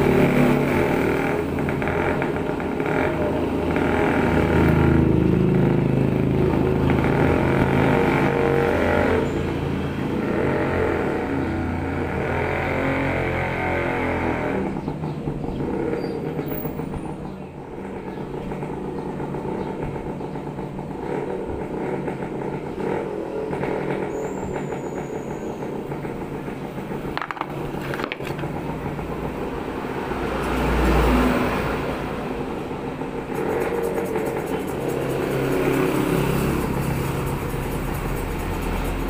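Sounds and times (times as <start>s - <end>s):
low vehicle rumble: 0.0s - 39.0s
road traffic passing: 0.0s - 39.0s.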